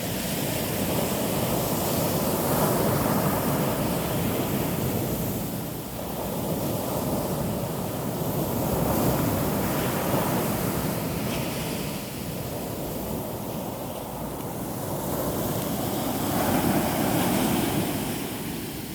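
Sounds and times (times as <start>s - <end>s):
waves washing onto beach: 0.0s - 18.9s.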